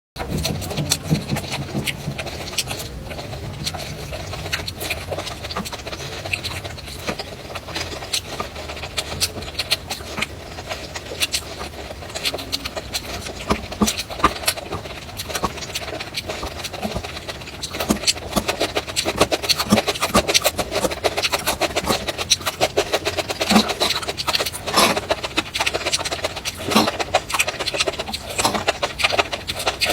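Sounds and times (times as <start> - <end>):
crunching and chewing food: 0.2 - 29.9.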